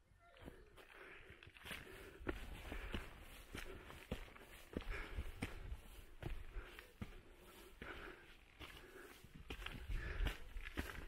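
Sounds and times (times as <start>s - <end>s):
footsteps crunching on track: 0.4s - 11.0s.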